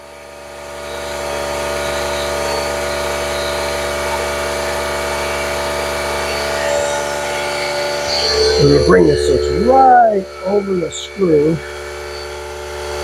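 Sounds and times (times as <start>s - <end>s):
air compressor motor drone: 0.0s - 13.0s.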